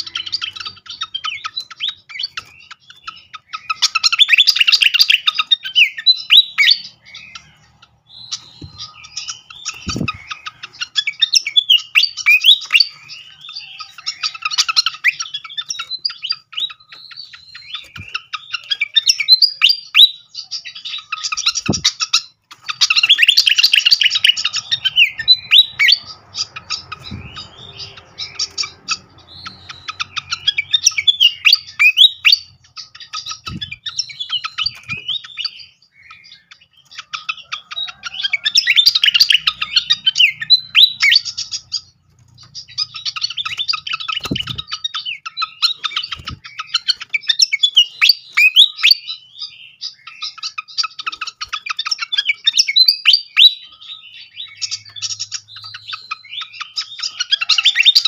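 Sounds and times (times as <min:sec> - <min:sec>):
songbird chirping and warbling: 0:00.0 - 0:58.0.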